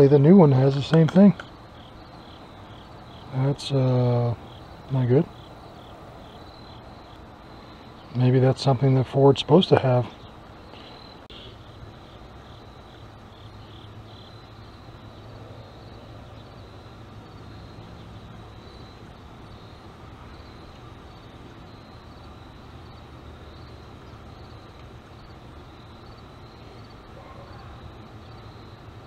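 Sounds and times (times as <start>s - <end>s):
insect chirping faintly: 0.0s - 29.0s
steady low hum: 0.0s - 29.0s.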